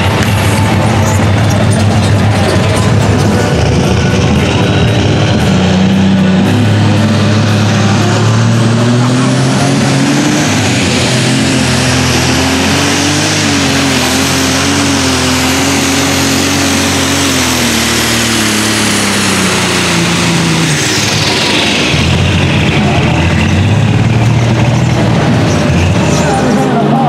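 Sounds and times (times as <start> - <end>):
pulling tractor engine at full power: 0.0 - 27.0.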